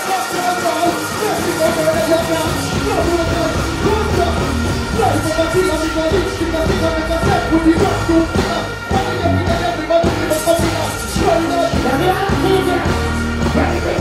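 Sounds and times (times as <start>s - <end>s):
dancehall backing beat: 0.0s - 14.0s.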